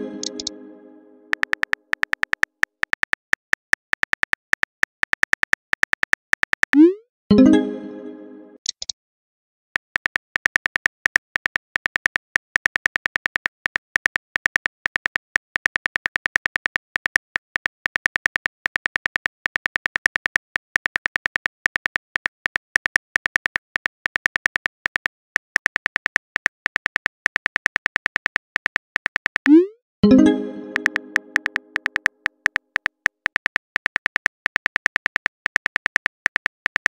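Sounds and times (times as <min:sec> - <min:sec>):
phone keyboard clicks: 0:00.2 - 0:00.5, 0:01.3 - 0:06.8, 0:09.8 - 0:29.6, 0:30.7 - 0:36.9.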